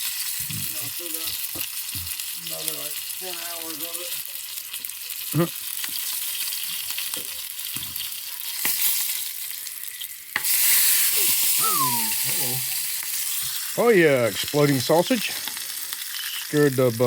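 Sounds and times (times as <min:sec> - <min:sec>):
sausages sizzling: 0:00.0 - 0:17.0.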